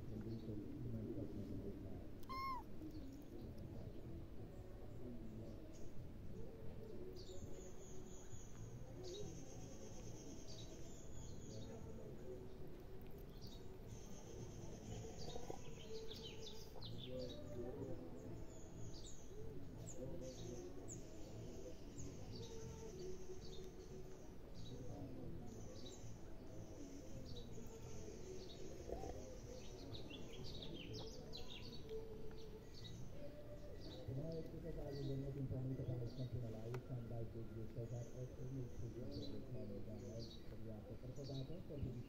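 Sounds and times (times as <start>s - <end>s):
faint low murmur: 0.0s - 42.0s
small birds chirping: 2.2s - 4.2s, 5.1s - 37.0s.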